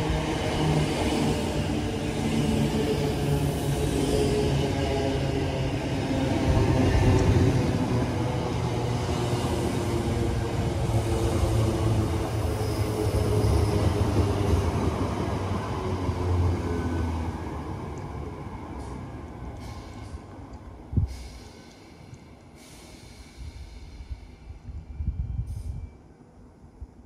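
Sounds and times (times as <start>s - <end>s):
train rumbling past: 0.0s - 26.4s.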